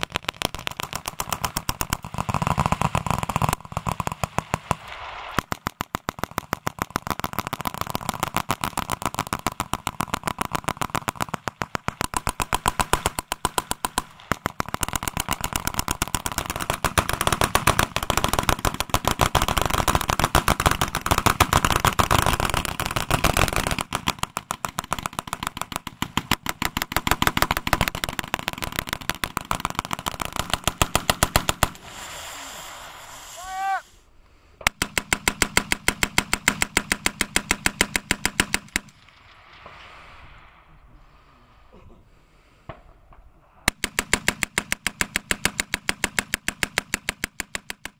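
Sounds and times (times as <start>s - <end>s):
machine guns firing bursts: 0.0s - 4.8s, 5.4s - 31.8s, 34.7s - 39.0s, 43.7s - 47.9s.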